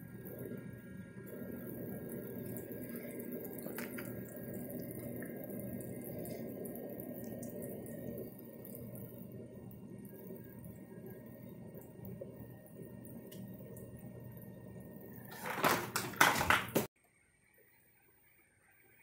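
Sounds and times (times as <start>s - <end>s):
small pump humming: 0.0s - 16.5s
faucet running water: 0.0s - 16.9s.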